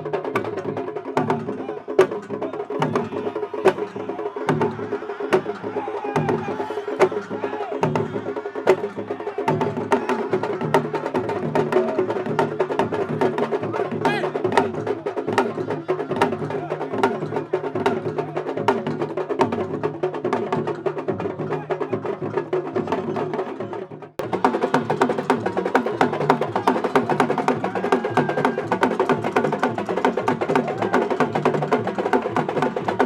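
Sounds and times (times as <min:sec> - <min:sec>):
fast hand and stick drumming: 0:00.0 - 0:23.3, 0:24.2 - 0:33.0.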